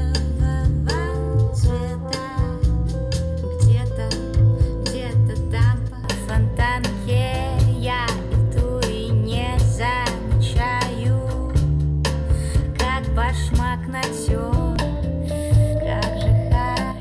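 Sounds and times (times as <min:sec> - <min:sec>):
song over loudspeakers: 0:00.0 - 0:11.6, 0:12.3 - 0:17.0.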